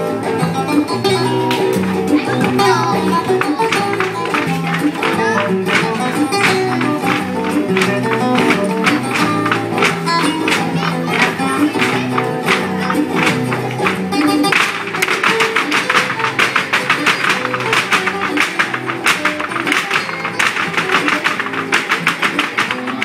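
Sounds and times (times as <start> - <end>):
flamenco guitar music: 0.0 - 23.0
fast percussive taps: 1.4 - 23.0.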